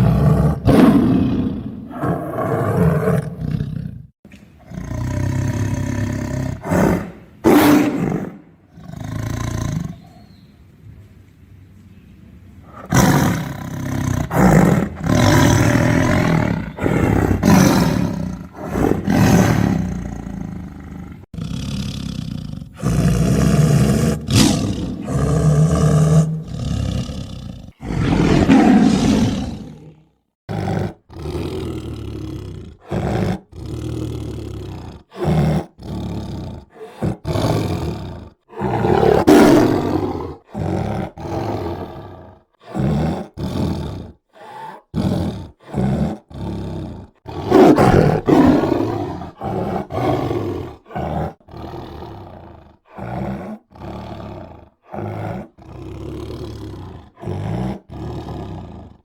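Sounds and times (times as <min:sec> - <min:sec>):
tiger roaring and growling: 0:00.0 - 0:10.2, 0:12.6 - 0:59.0.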